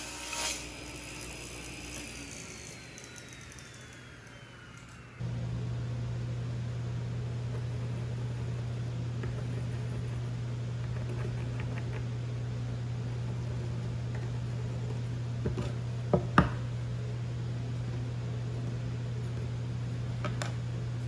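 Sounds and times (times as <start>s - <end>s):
low hum: 2.2s - 21.0s.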